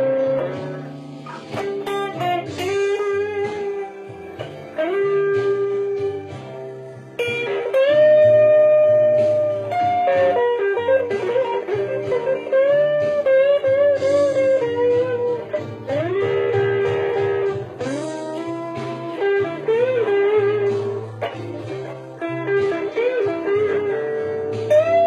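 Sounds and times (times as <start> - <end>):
bluesy electric guitar lead: 0.0 - 25.0.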